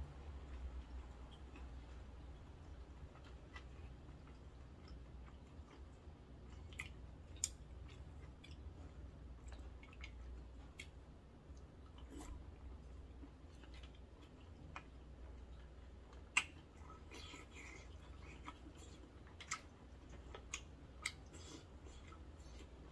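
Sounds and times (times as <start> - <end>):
chewing noodles: 0.5 - 22.9.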